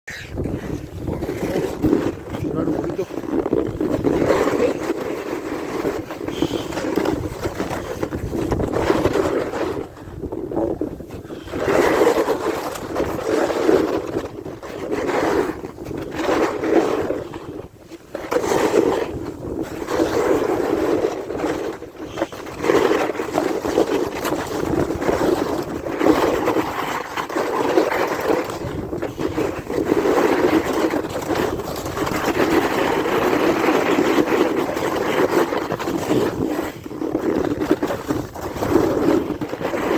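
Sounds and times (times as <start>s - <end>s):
wind on microphone: 0.0s - 39.9s
edges scraping over snow: 0.1s - 10.0s, 10.7s - 39.9s.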